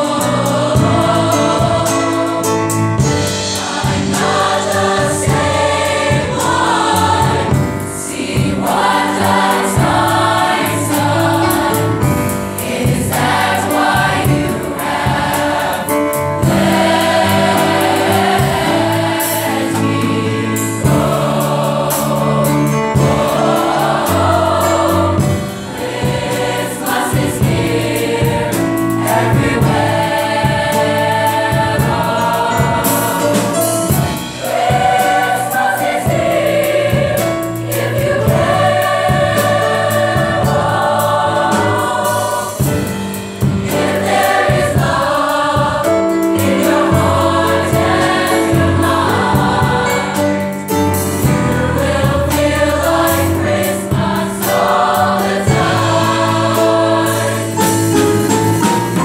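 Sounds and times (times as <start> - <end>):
choir singing unaccompanied: 0.0 - 59.0.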